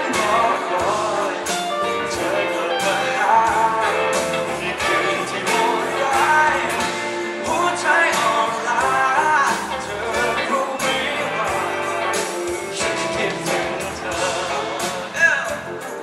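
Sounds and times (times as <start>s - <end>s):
bass guitar: 0.0s - 16.0s
drums: 0.0s - 16.0s
electric guitar: 0.0s - 16.0s
man singing pop song: 0.0s - 16.0s.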